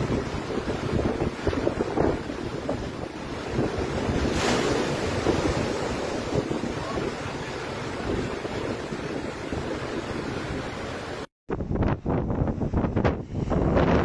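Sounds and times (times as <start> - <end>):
storm waves breaking: 0.0 - 11.3
wind buffeting microphone: 0.0 - 14.0.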